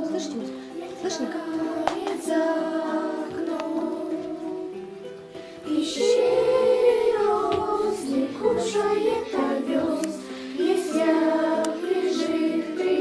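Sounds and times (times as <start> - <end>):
children singing: 0.0 - 13.0
recorded backing track: 0.0 - 13.0.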